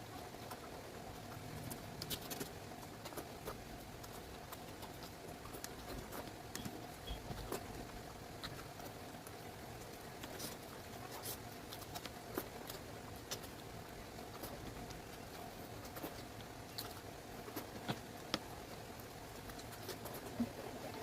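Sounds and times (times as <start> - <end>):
faint steady hum: 0.0 - 21.0
wet chewing clicks and smacks: 0.4 - 21.0.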